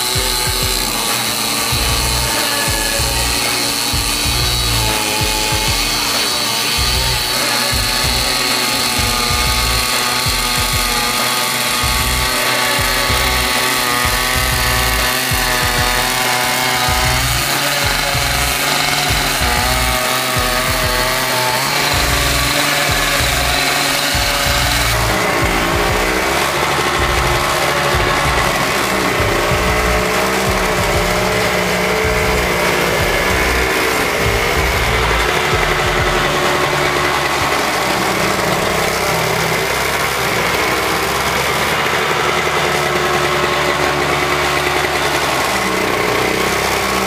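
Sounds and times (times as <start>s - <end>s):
snowblower engine running: 0.0s - 47.0s.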